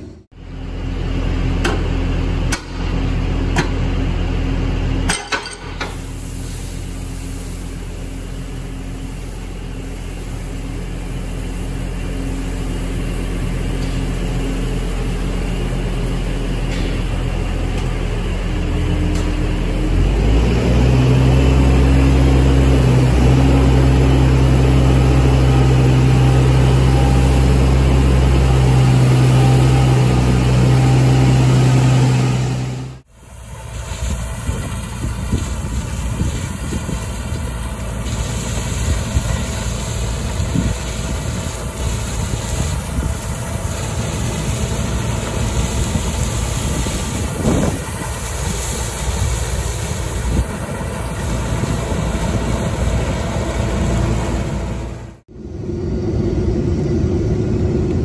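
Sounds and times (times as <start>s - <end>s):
combine harvester running: 0.0s - 58.0s
tractor engine running: 0.0s - 58.0s.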